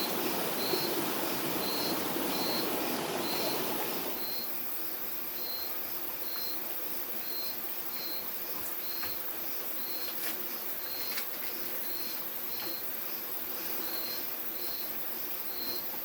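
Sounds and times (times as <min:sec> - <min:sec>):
forest insects hissing: 0:00.0 - 0:16.0.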